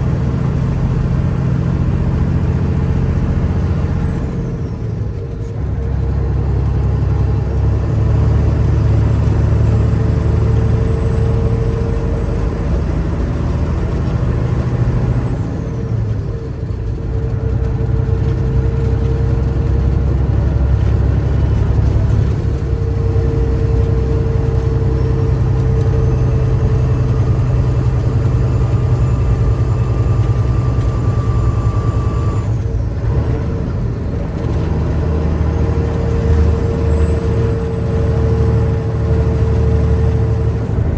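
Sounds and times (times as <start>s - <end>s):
truck diesel engine under load: 0.0s - 40.9s.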